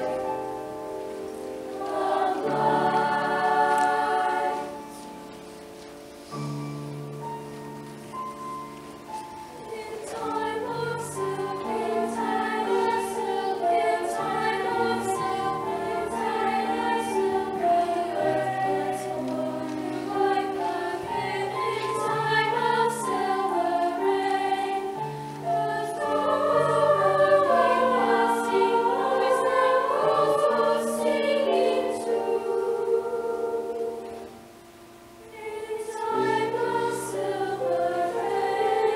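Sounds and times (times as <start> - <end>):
women's choir singing: 0.0 - 0.6, 1.3 - 5.6, 9.5 - 34.5, 35.2 - 38.9.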